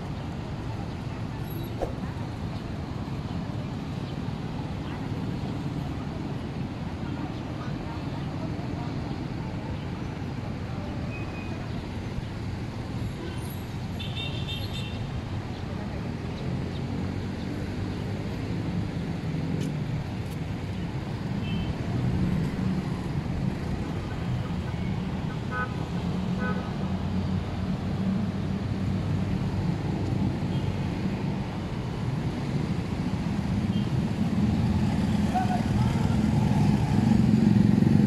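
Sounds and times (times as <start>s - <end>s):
motorcycle traffic rumble: 0.0s - 38.0s.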